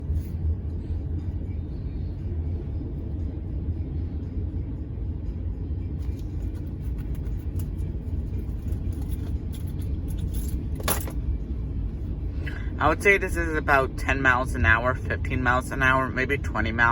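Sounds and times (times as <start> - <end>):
vehicle rumble from inside: 0.0 - 16.9.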